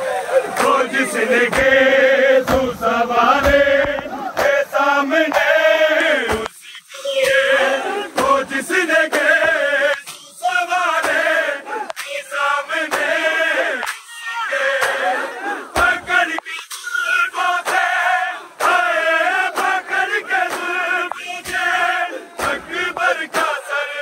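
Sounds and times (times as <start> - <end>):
men chanting in rhythm: 0.0 - 24.0.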